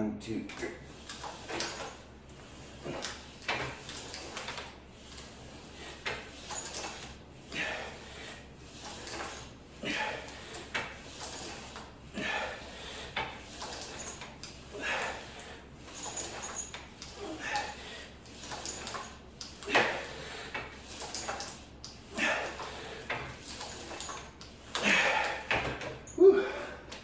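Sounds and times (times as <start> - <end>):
bursts of effort or equipment movement: 0.6 - 27.0.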